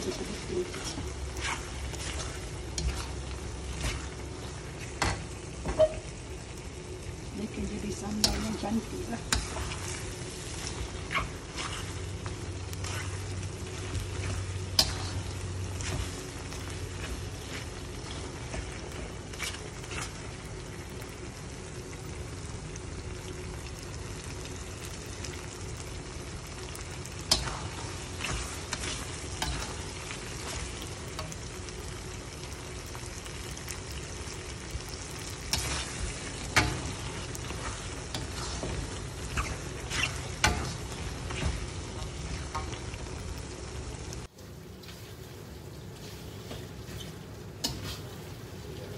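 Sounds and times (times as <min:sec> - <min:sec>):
food sizzling in a pan: 0:00.0 - 0:48.9.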